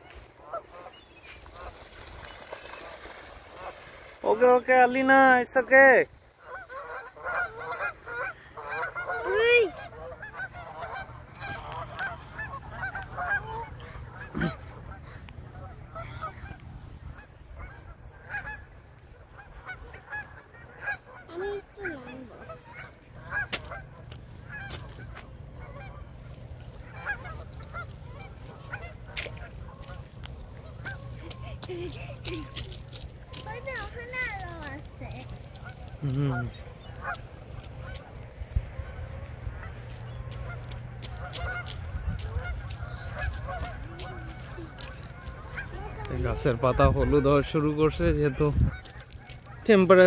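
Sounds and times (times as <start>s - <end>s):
geese honking: 0.0s - 50.0s.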